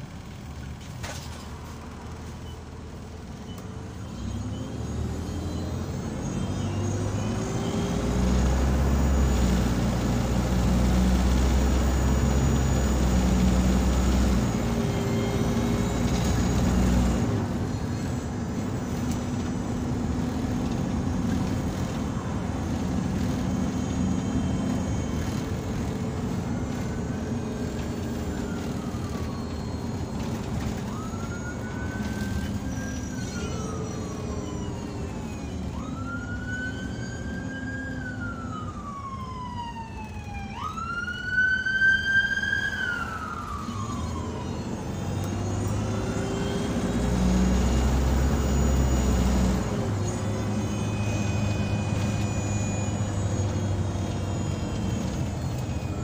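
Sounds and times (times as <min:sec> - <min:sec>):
bus engine droning: 0:00.0 - 0:56.0
siren wailing: 0:04.4 - 0:56.0.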